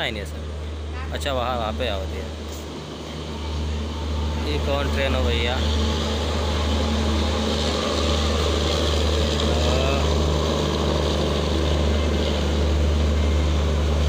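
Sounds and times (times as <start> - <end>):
train rumbling into station: 0.0 - 14.0.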